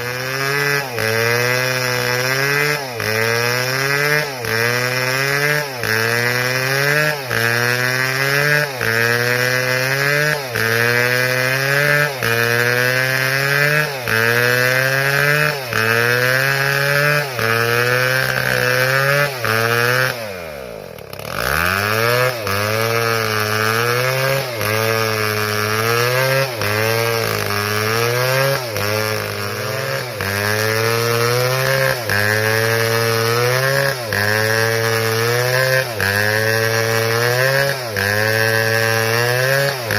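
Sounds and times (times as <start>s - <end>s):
chainsaw cutting at full throttle: 0.0s - 39.9s.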